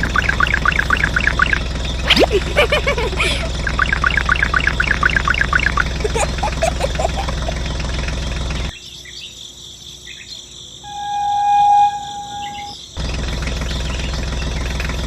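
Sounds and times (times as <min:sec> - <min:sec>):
low engine-like drone: 0:00.0 - 0:08.8, 0:10.8 - 0:15.0.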